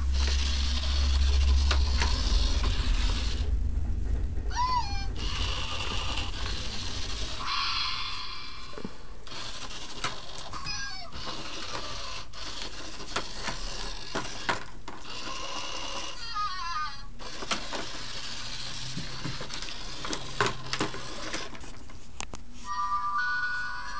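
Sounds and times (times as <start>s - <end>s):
toy motor whirring: 0.0s - 3.5s, 4.5s - 21.8s, 22.6s - 23.9s.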